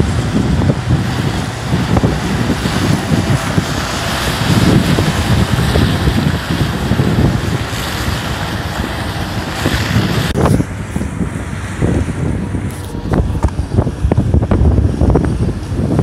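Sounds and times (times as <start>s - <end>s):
all-terrain vehicle rumbling: 0.0s - 16.0s
wind buffeting microphone: 0.0s - 16.0s.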